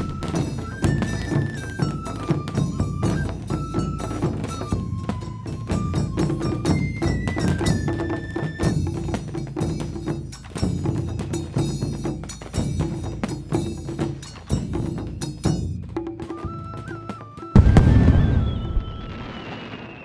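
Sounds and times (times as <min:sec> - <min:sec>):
driving percussion beat: 0:00.0 - 0:18.7.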